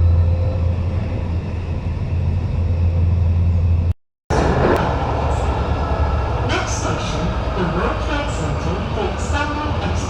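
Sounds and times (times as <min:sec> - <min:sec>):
metro train low hum: 0:00.0 - 0:10.0
train rattling ride: 0:00.0 - 0:10.0.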